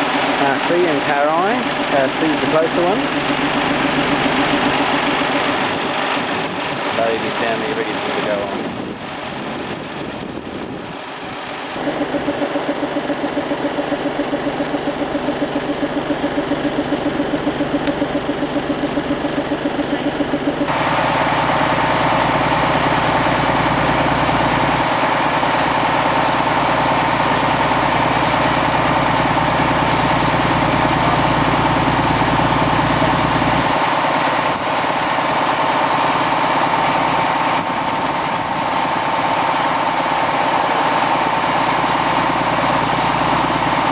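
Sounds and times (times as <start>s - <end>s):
engine starting and running: 0.0s - 43.9s.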